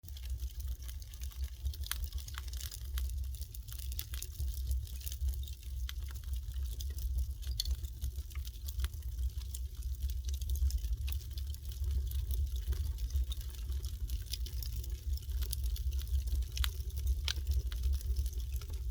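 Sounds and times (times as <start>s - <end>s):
wood fire crackling: 0.0s - 18.9s.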